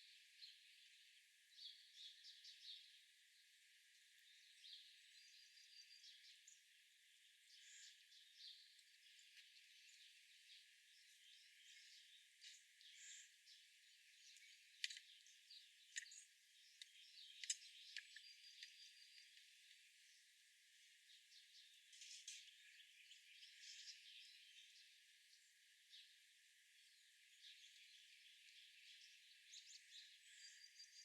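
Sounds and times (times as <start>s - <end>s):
soft outdoor hiss: 0.0s - 31.0s
songbirds chirping: 0.0s - 31.0s.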